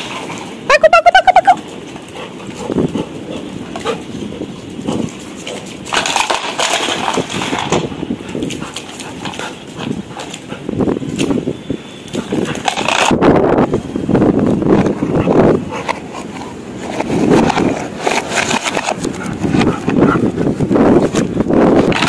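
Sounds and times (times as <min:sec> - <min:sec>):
puppy playing: 0:00.0 - 0:13.1, 0:14.7 - 0:22.0.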